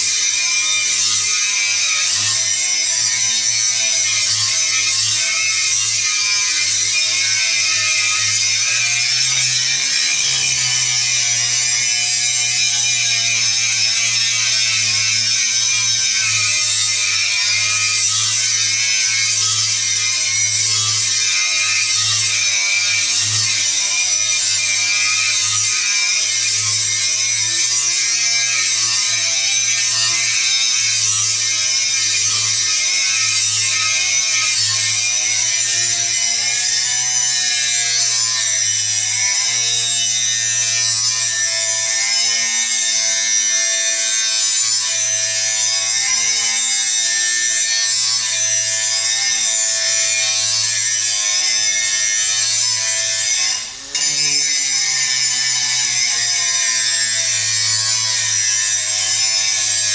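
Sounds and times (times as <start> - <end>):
angle grinder grinding steel: 0.0 - 59.9.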